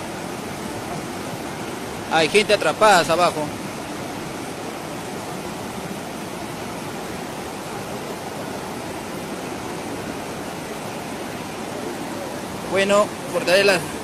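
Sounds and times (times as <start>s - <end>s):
muddy flood rushing: 0.0s - 14.0s.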